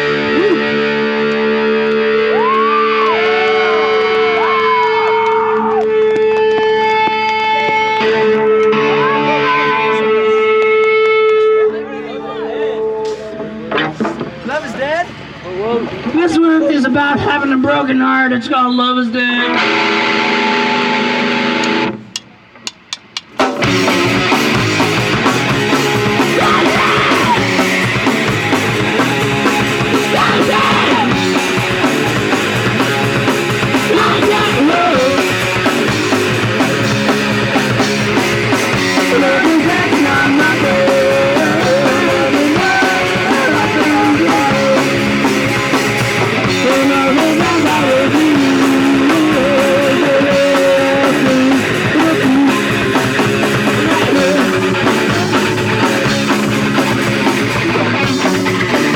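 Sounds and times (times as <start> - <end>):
punk rock band playing live: 0.0 - 11.4, 19.5 - 22.0, 23.0 - 58.9.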